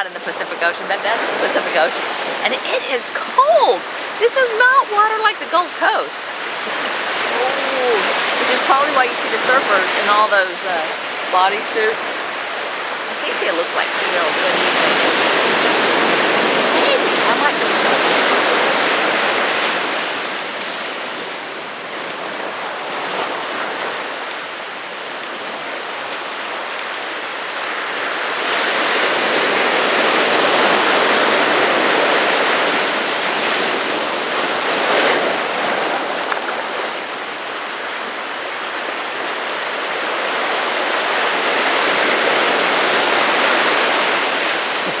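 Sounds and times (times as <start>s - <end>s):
surf breaking on beach: 0.0s - 45.0s.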